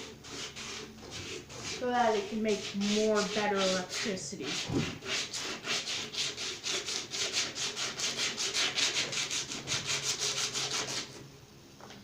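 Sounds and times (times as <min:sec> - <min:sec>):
sandpaper rubbing on metal: 0:00.0 - 0:11.2.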